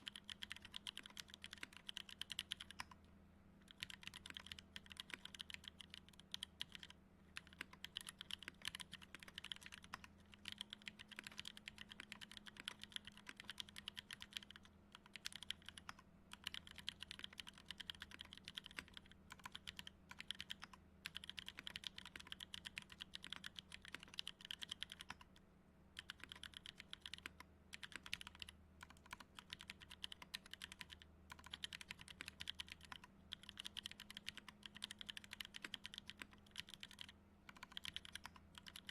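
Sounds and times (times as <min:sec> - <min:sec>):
mechanical keyboard typing: 0:00.0 - 0:25.4, 0:26.0 - 0:38.9.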